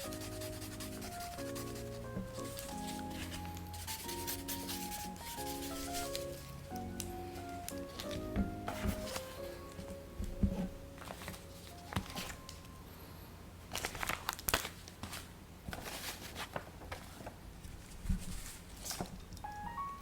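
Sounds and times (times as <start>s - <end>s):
paper crinkling and rustling: 0.0s - 12.8s, 13.6s - 19.3s.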